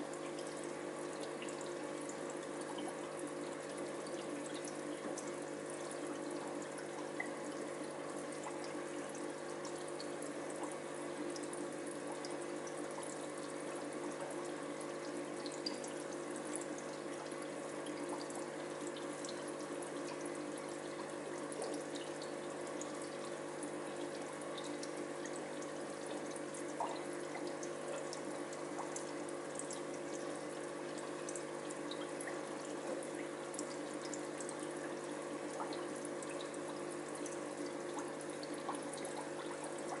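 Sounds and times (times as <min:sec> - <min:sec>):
filter hum: 0:00.0 - 0:40.0
water drips: 0:00.0 - 0:40.0.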